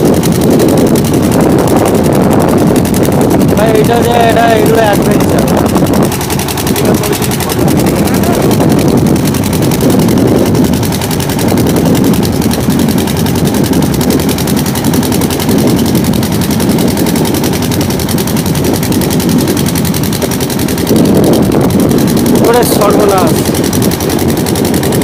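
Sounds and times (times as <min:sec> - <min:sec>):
motor boat engine thumping: 0:00.0 - 0:25.0
rough water against hull: 0:00.0 - 0:25.0
wind: 0:00.0 - 0:25.0.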